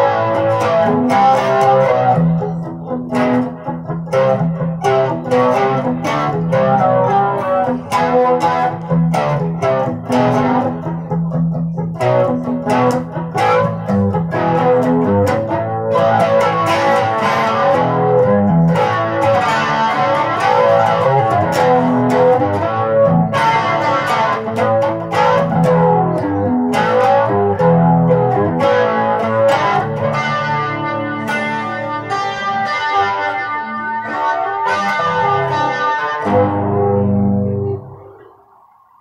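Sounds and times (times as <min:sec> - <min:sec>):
solo guitar playing: 0:00.0 - 0:38.6.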